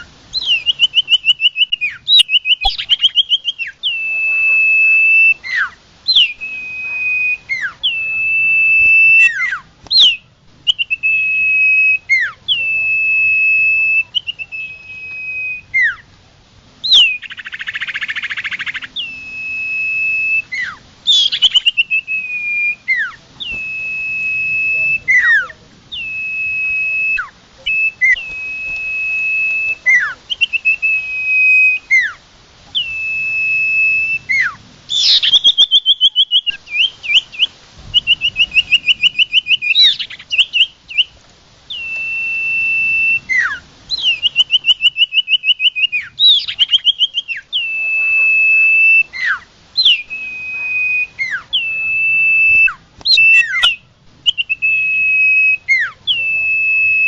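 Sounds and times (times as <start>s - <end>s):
songbird whistling and trilling: 0.0s - 16.1s, 16.8s - 57.0s.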